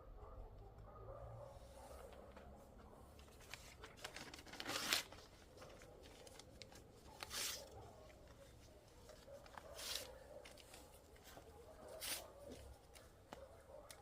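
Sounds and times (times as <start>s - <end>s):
rustling handling noises: 1.6s - 14.0s.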